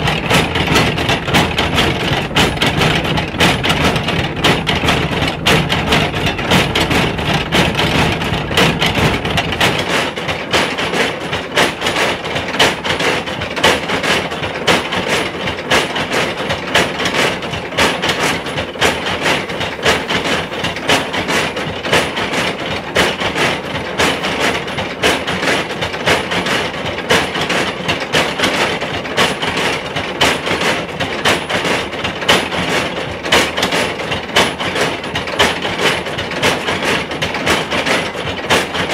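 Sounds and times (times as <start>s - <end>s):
stamp mill pestles knocking: 0.0s - 38.9s.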